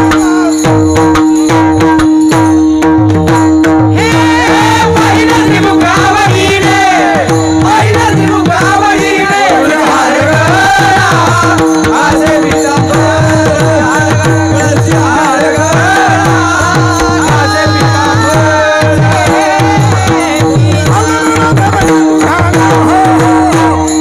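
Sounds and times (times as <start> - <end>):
harmonium drone: 0.0 - 24.0
person singing devotional melody: 3.8 - 24.0.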